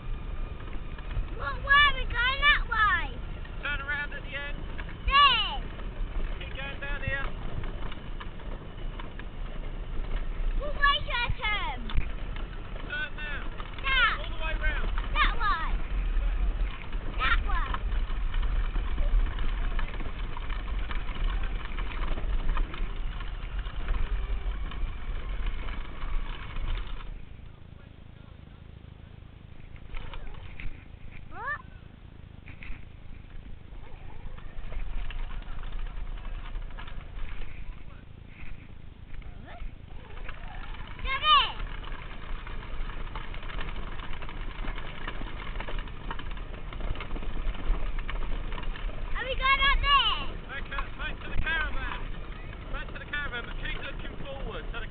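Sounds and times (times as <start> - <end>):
knocks and rattles: 0.0 - 27.4, 32.4 - 54.9
quad bike engine running: 0.0 - 54.9.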